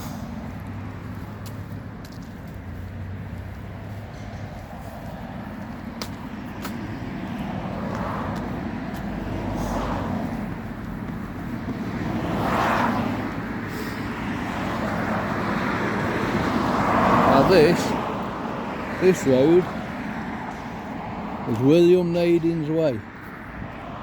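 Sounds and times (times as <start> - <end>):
passing cars: 0.0 - 24.0.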